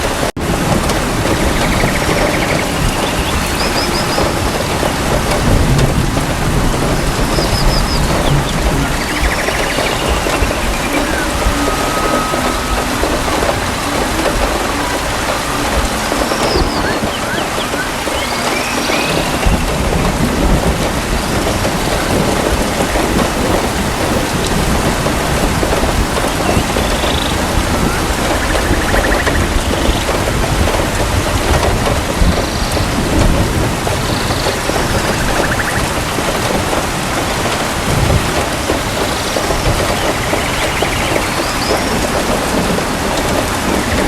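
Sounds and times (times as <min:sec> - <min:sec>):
heavy rain on foliage: 0:00.0 - 0:44.0
low thunder rumbling: 0:00.0 - 0:44.0.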